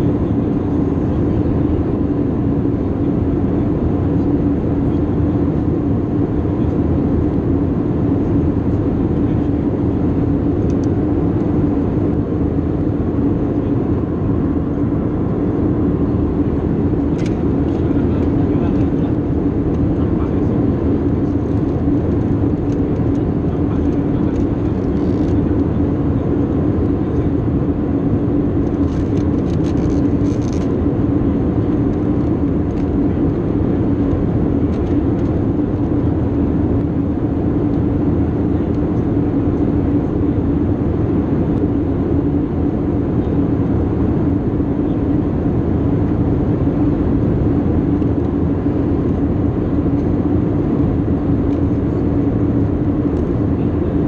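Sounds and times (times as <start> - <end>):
jet engines droning: 0.0 - 54.0
steady low hum: 0.0 - 54.0.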